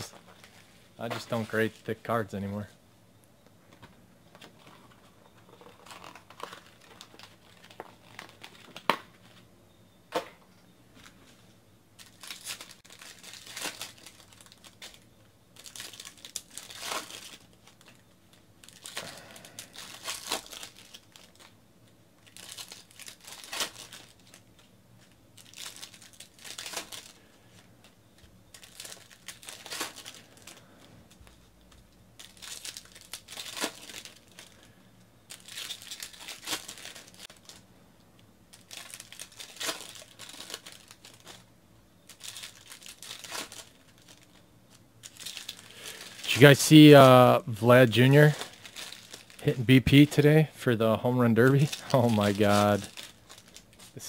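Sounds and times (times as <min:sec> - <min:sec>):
card pack wrappers tearing and crinkling: 0:00.0 - 0:02.0, 0:04.4 - 0:09.4, 0:12.0 - 0:54.0.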